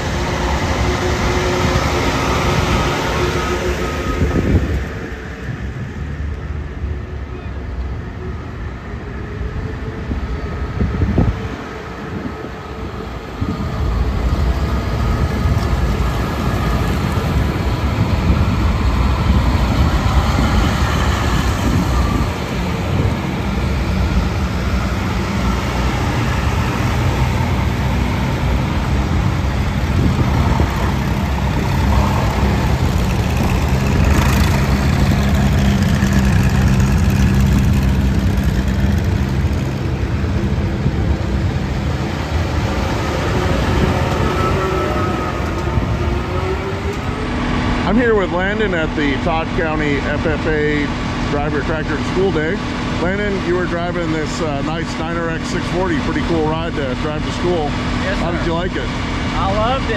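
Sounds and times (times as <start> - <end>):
tractor engines driving past: 0.0 - 59.9.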